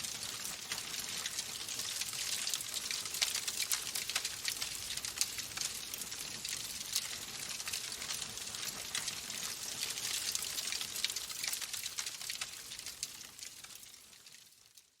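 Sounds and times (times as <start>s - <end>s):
wood fire crackling: 0.0s - 14.4s.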